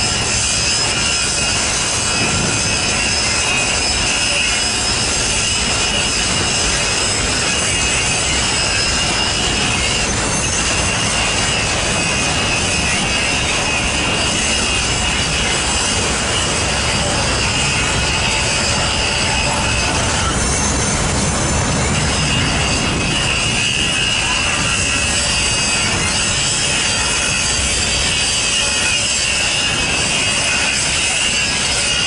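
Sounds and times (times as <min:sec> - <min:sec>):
high-pitched whine: 0:00.0 - 0:32.0
steel wheels rushing on rail: 0:00.0 - 0:32.0.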